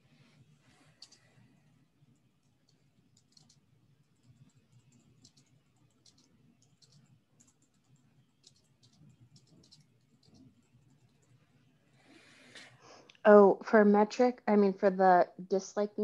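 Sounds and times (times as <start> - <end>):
faint keyboard typing: 0.2 - 13.2.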